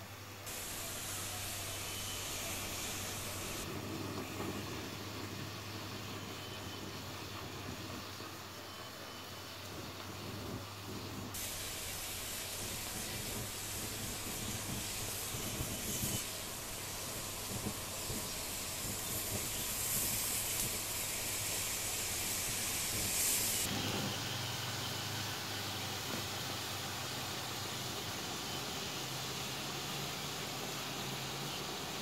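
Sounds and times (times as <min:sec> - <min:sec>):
smoke bombs hissing: 0:00.0 - 0:32.0.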